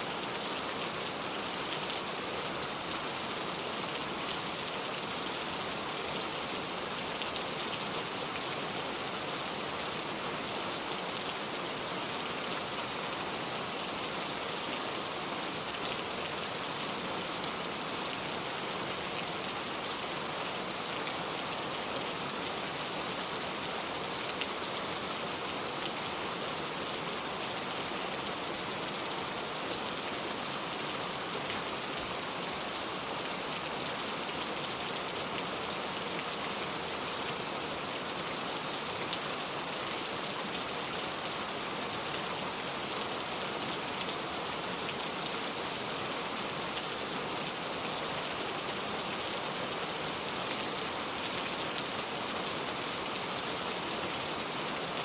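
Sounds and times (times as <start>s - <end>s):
heavy pouring rain: 0.0s - 55.0s.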